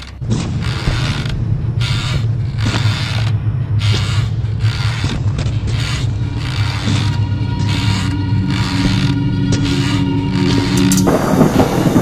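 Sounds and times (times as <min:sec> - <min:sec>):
low rumble: 0:00.0 - 0:12.0
trolley wheels creaking and rattling: 0:00.0 - 0:12.0.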